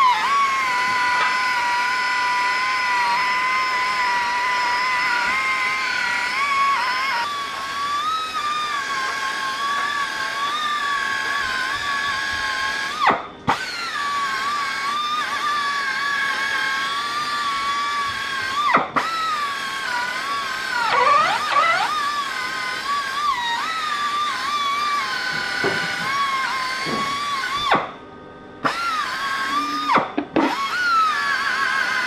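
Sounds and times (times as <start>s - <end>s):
air die grinder whining: 0.0s - 32.0s.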